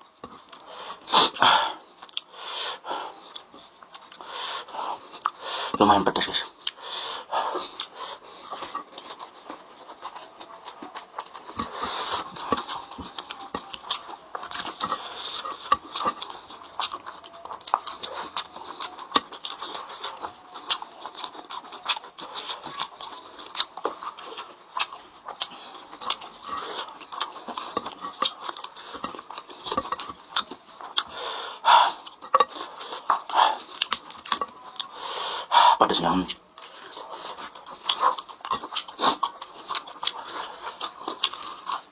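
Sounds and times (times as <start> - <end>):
person chewing chicken: 0.0 - 41.9.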